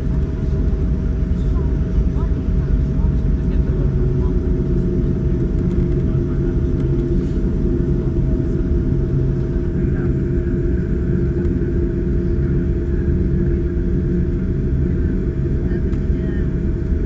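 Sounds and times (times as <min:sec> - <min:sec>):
constant low hum: 0:00.0 - 0:17.0
jet engine cabin rumble: 0:00.0 - 0:17.0.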